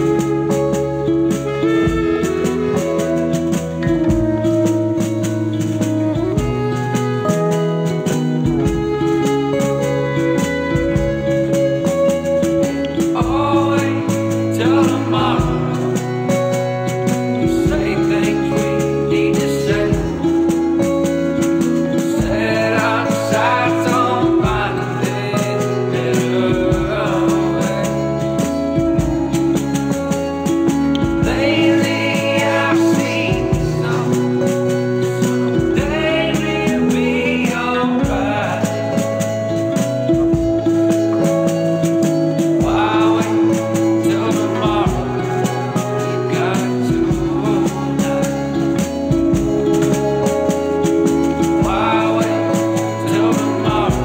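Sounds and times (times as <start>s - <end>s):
band playing rock song: 0.0s - 54.0s
bass line: 0.0s - 54.0s
drum beat: 0.0s - 54.0s
electric guitars: 0.0s - 54.0s.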